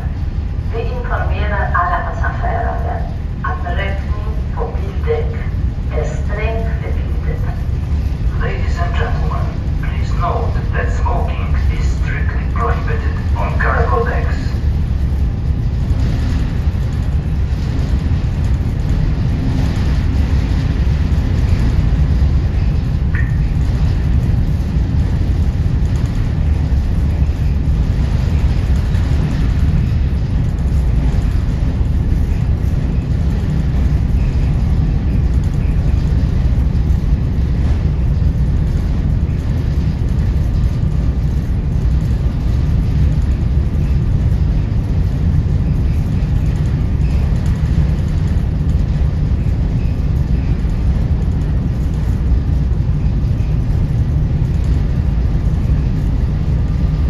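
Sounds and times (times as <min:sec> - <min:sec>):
ferry low rumble: 0:00.0 - 0:57.0.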